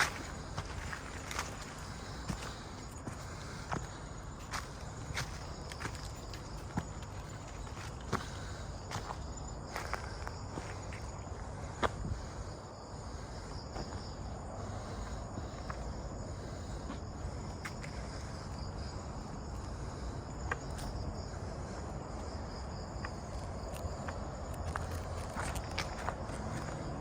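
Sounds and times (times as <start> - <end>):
night insects trilling: 0.0 - 27.0.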